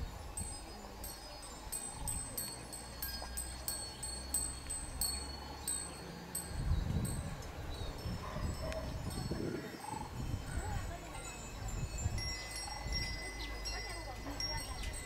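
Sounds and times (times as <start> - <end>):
small metal bells tinkling: 0.0 - 15.0.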